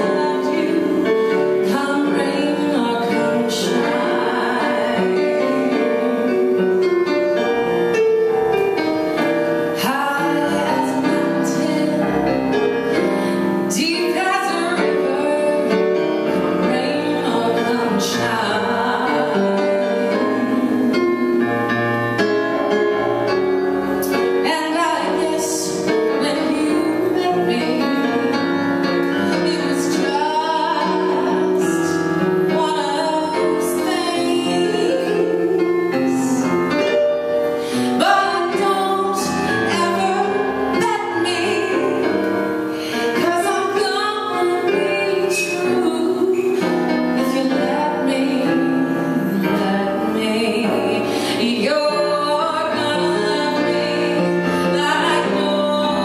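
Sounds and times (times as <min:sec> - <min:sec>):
woman singing jazz: 0:00.0 - 0:07.7, 0:08.6 - 0:56.0
instrumental accompaniment: 0:00.0 - 0:56.0.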